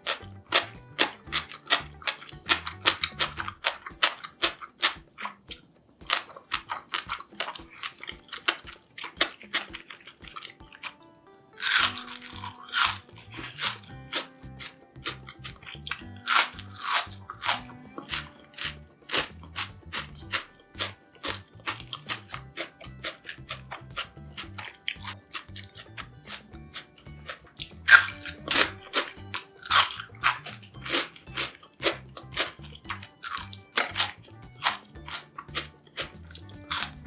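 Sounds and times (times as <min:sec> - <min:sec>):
crunching and chewing fried food: 0:00.0 - 0:10.5, 0:11.6 - 0:37.0.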